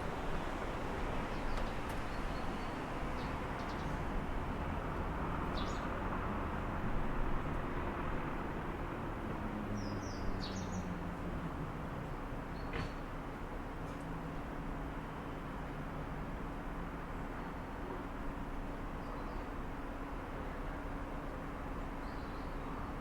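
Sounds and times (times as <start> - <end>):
city traffic hum: 0.0 - 23.0.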